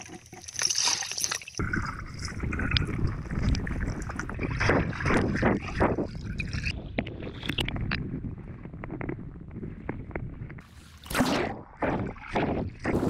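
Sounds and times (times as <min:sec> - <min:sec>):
water sloshing and rushing: 0:00.0 - 0:08.6, 0:10.6 - 0:13.0
underwater clicks and bubbles: 0:00.0 - 0:13.0
muffled underwater rumble: 0:01.6 - 0:13.0.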